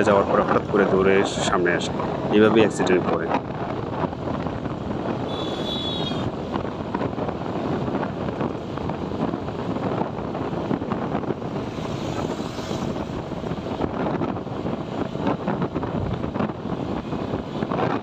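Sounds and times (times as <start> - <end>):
motorcycle engine and road noise: 0.0 - 18.0
wind buffeting microphone: 0.0 - 18.0.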